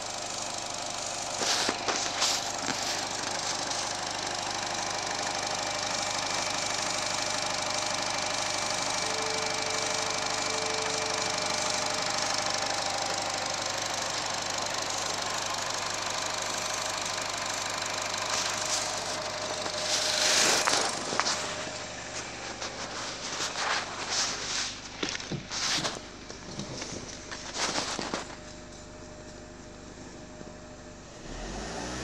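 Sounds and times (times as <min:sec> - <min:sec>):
car engine idling: 0:00.0 - 0:31.6.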